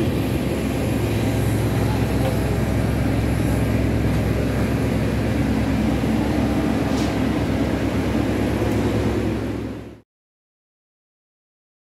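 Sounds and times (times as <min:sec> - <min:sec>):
low hum: 0:00.0 - 0:10.0
vehicle engine rumbling: 0:00.0 - 0:10.0.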